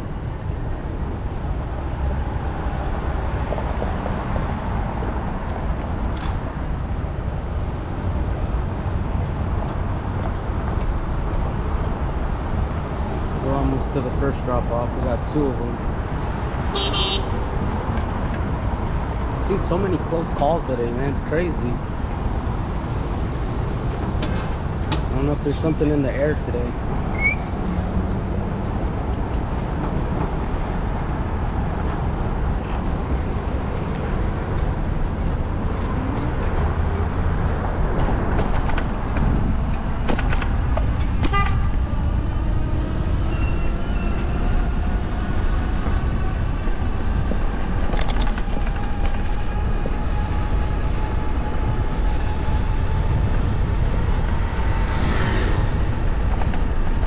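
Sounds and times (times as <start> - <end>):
city traffic rumble: 0.0 - 57.0.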